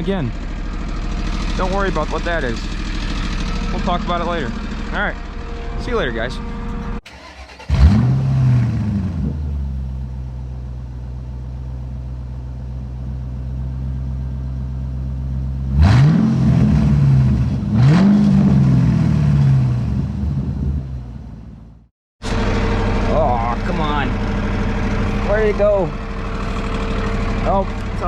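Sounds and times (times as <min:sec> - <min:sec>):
mower engine idling and revving: 0:00.0 - 0:28.0.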